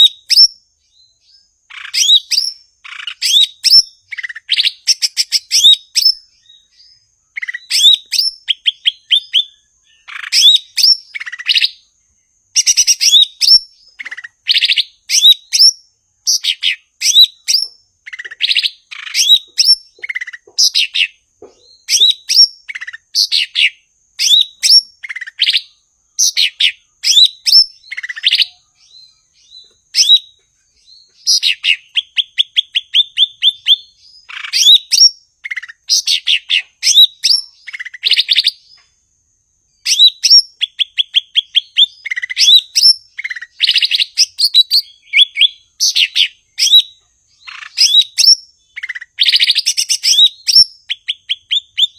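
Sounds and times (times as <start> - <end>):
bird singing whistles and chirps: 0.0 - 39.0, 39.6 - 51.9.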